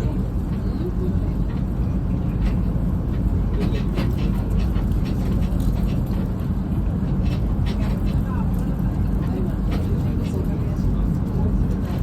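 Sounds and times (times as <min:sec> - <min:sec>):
trolley rumbling: 0:00.0 - 0:12.0.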